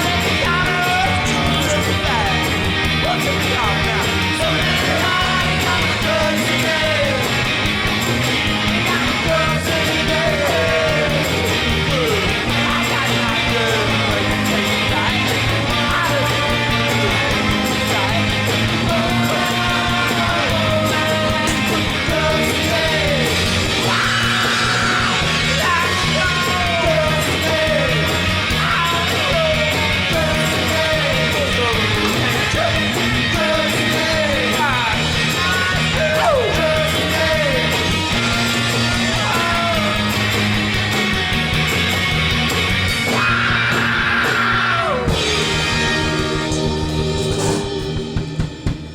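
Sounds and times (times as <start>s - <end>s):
rock music with distorted guitars: 0.0s - 48.9s.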